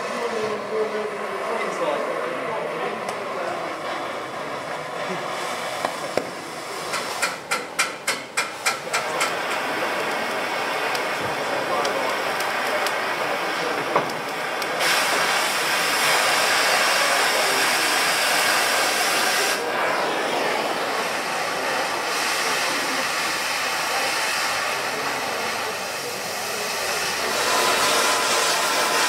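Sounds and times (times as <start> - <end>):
cutting torch hissing: 0.0 - 29.0.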